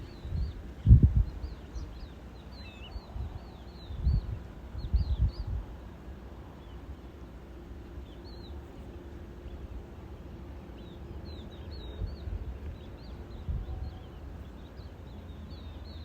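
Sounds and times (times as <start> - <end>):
small birds chirping: 0.0 - 7.2, 8.0 - 10.0, 10.6 - 16.0.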